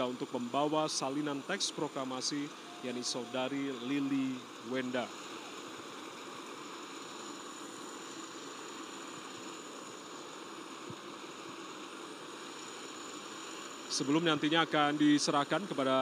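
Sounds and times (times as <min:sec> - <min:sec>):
high-pitched whine: 0:00.0 - 0:16.0
steady hiss: 0:00.0 - 0:16.0.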